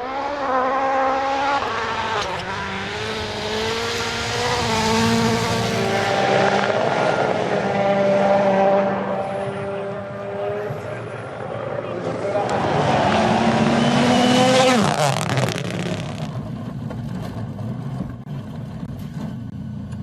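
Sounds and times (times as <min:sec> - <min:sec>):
rally car engine revving: 0:00.0 - 0:19.5.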